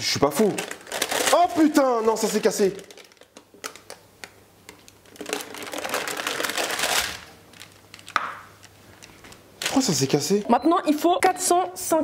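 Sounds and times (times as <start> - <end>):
baking paper crinkling: 0.0 - 10.4.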